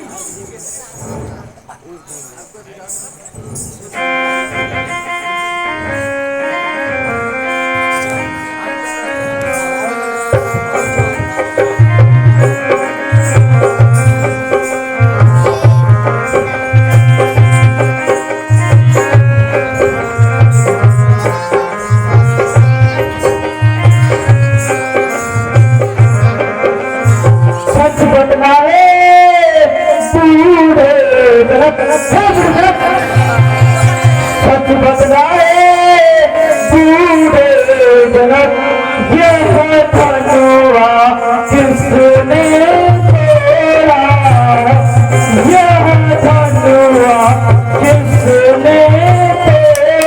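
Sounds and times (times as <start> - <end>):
sustained melody notes: 2.8 - 50.0
low tabla-like drum beat: 6.8 - 50.0.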